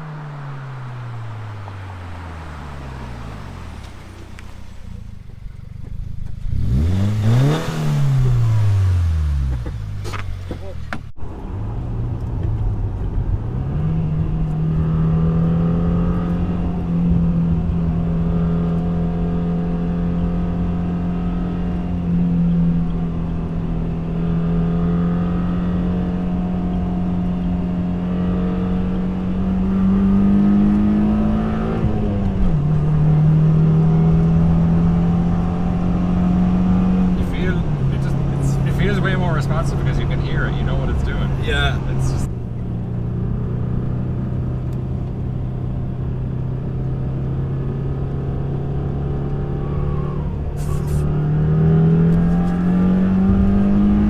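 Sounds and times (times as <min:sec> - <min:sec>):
car engine exhaust drone: 0:00.0 - 0:54.0.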